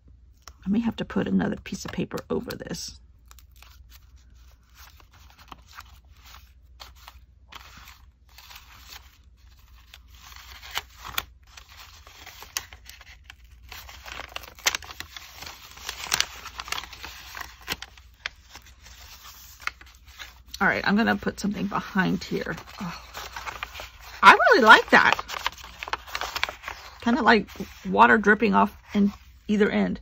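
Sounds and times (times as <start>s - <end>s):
paper rustling and crinkling: 3.2s - 29.6s.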